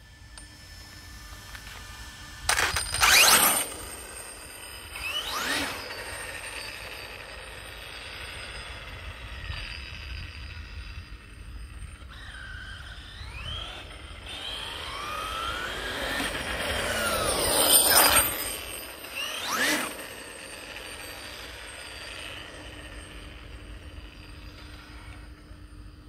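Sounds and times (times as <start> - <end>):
rc car motor whine: 0.0 - 26.0.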